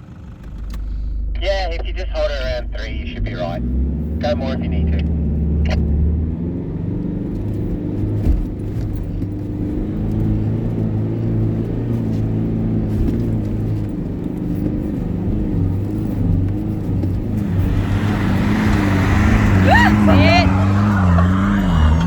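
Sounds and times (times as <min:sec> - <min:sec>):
engine labouring under load: 0:00.0 - 0:22.0.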